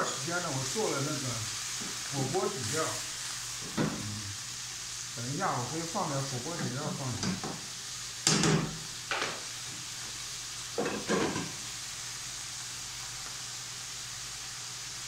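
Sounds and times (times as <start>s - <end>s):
greens sizzling in a wok: 0.0s - 15.0s.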